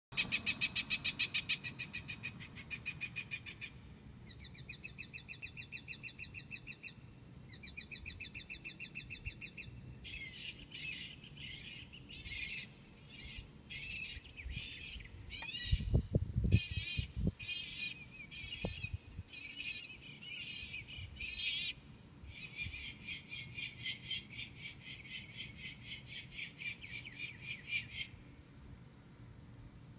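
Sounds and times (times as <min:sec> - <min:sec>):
recorded bird calls over loudspeakers: 0:00.1 - 0:28.3.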